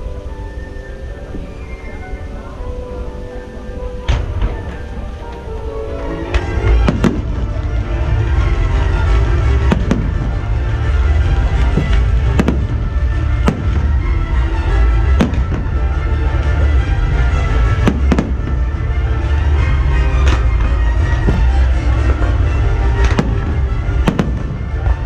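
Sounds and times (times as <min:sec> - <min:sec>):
continuous low rumble: 0:00.0 - 0:25.0
music playing: 0:00.0 - 0:25.0
fireworks bursting with sharp bangs: 0:04.0 - 0:25.0.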